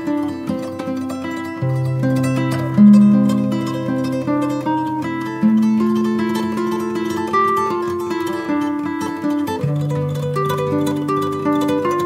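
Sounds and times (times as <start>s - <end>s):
plucked-string melody: 0.0s - 12.0s.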